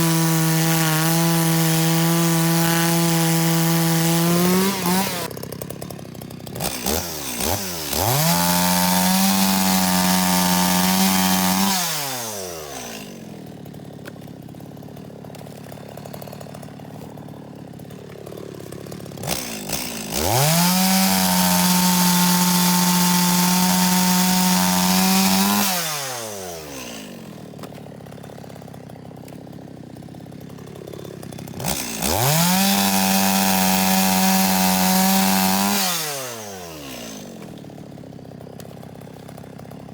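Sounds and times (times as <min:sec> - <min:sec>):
chainsaw cutting at full throttle: 0:00.0 - 0:39.9
chainsaw idling: 0:00.0 - 0:39.9.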